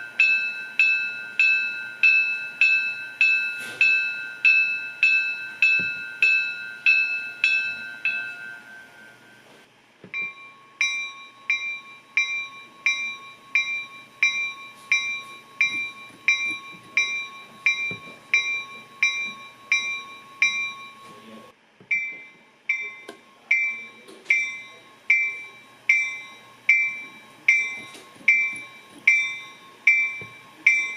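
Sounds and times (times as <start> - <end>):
locomotive bell ringing: 0.0 - 30.9.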